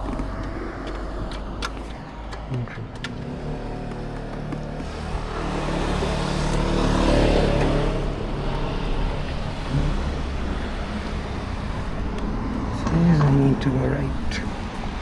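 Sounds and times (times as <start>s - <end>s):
car engine passing by: 0.0s - 15.0s
steady traffic noise: 0.0s - 15.0s.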